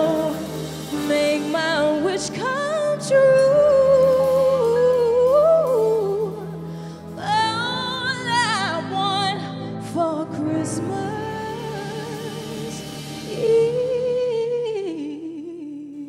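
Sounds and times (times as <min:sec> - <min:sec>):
sustained backing chords: 0:00.0 - 0:15.2
woman singing a slow ballad: 0:00.0 - 0:16.0.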